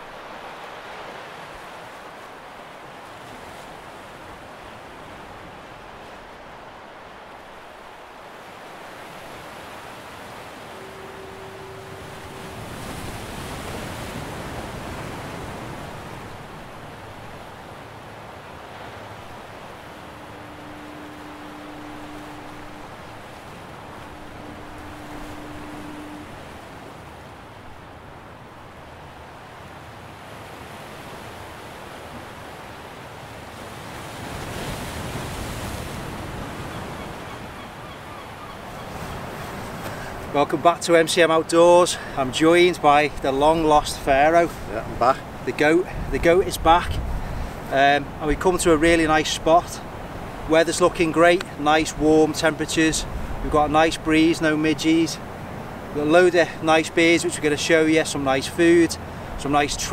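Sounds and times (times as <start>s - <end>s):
sea waves washing on shore: 0.0s - 59.9s
wind: 0.0s - 59.9s.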